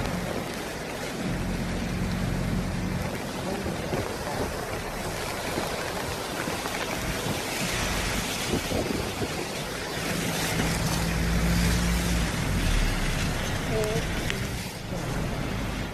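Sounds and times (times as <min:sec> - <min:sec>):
rain: 0:00.0 - 0:15.9
strong wind through trees: 0:00.0 - 0:15.9
wind buffeting microphone: 0:00.0 - 0:15.9.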